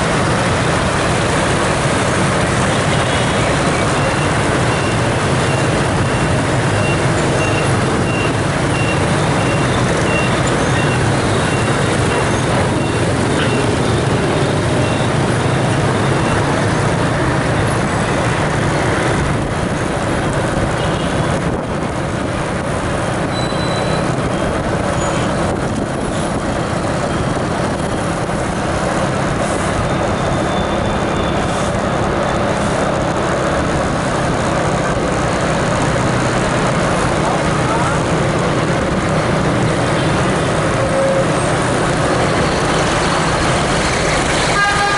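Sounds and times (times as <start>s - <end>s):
vehicle engine rumble: 0.0s - 44.9s.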